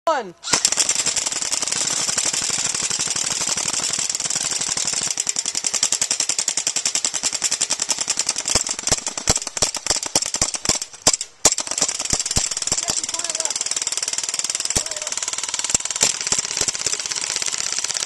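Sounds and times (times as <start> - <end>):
airsoft gun firing: 0.4 - 18.0.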